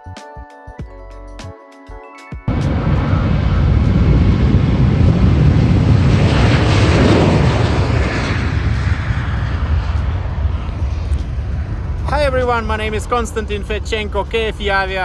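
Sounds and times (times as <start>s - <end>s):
jet engine roar: 2.5s - 15.0s.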